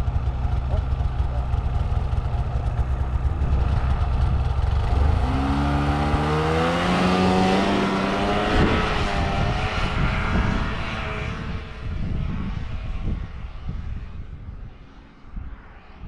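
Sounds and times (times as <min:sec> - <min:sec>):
snowmobile engine idling and revving: 0:00.0 - 0:16.0.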